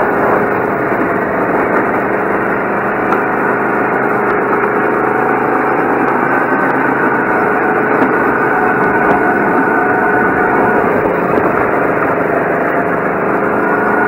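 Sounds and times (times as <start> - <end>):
go-kart engine running: 0.0 - 14.0.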